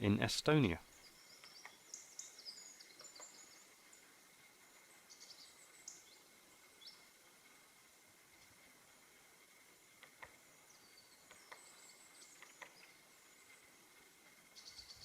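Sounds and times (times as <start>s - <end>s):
small birds chirping: 0.6s - 8.6s, 9.8s - 15.0s.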